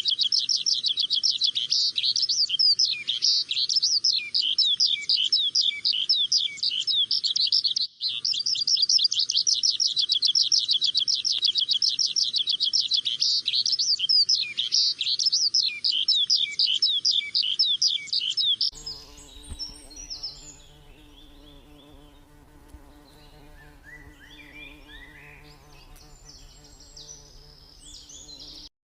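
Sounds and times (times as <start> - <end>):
birds chirping: 0.0 - 28.7.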